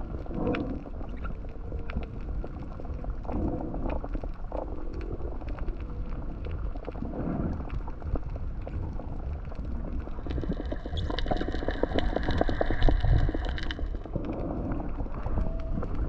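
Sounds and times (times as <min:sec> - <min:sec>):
underwater clicks and crackles: 0:00.0 - 0:16.0
underwater low rumble: 0:00.0 - 0:16.0.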